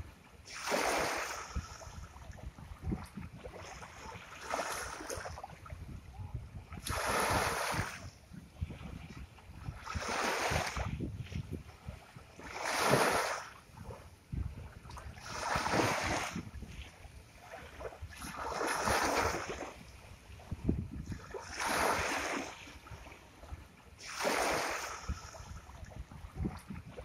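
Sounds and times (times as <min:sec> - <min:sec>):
sea waves breaking on shore: 0:00.0 - 0:27.0.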